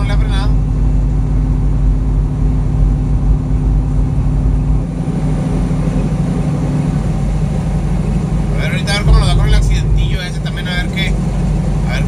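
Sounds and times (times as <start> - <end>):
road noise inside cab: 0.0 - 12.0
truck diesel engine droning: 0.0 - 12.0.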